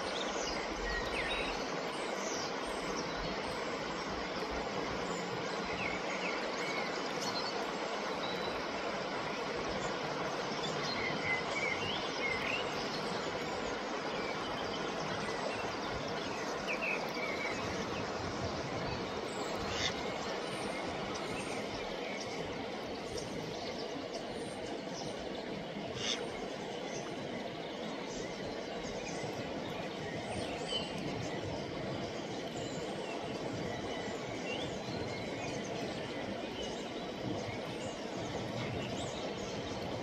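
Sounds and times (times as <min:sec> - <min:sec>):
flowing river water: 0:00.0 - 0:40.0.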